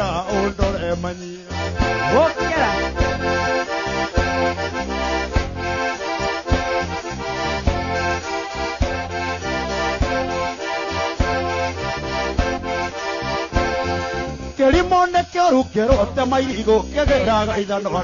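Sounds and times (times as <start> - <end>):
bass line: 0.0 - 18.0
button accordion melody: 0.0 - 18.0
steady dance beat: 1.6 - 15.2, 15.9 - 17.9.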